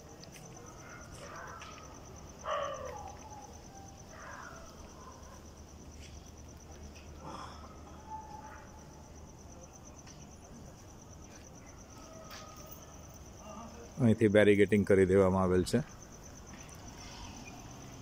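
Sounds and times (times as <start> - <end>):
cricket trilling: 0.0 - 18.0.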